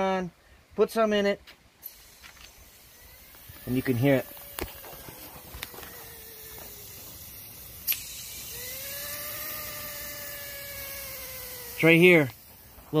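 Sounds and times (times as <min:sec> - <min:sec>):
refrigerant hissing from hose: 0:01.8 - 0:13.0
steady whine with overtones: 0:01.8 - 0:13.0.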